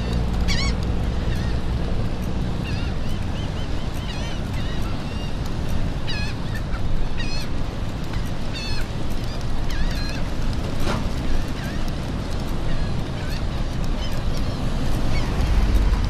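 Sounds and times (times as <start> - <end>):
birds wavering calls: 0.0 - 16.0
wind rumbling on microphone: 0.0 - 16.0.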